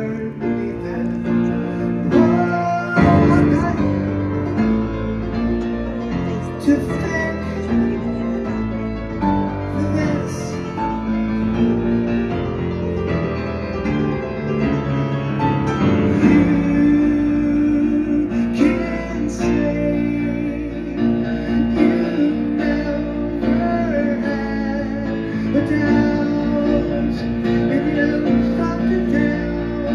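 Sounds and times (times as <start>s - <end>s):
grand piano playing chords: 0.0s - 29.9s.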